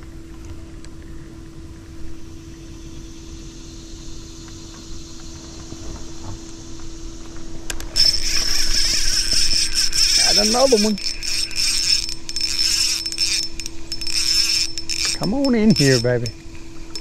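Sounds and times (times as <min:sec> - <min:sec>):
loud hissing buzz: 0:01.1 - 0:17.0
small electric motor humming: 0:01.9 - 0:17.0.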